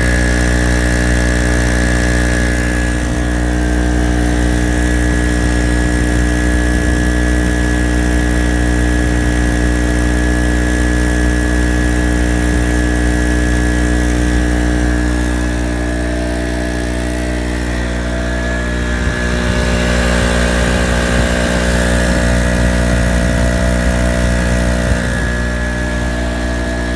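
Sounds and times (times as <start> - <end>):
generator engine running: 0.0 - 26.9.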